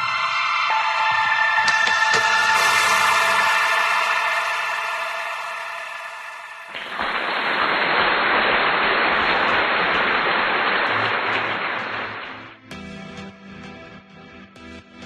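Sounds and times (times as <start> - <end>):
loud rush of noise: 0.0 - 12.6
electronic music with a beat: 0.0 - 15.0.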